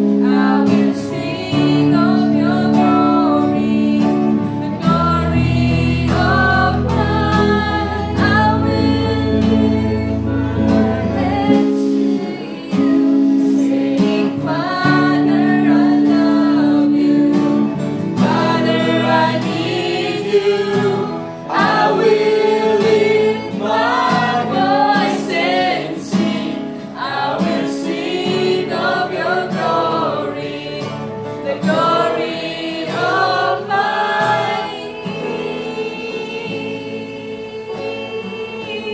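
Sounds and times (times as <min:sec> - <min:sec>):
acoustic guitar: 0:00.0 - 0:38.9
electric guitar: 0:00.0 - 0:38.9
keyboard: 0:00.0 - 0:38.9
women singing: 0:00.0 - 0:38.9.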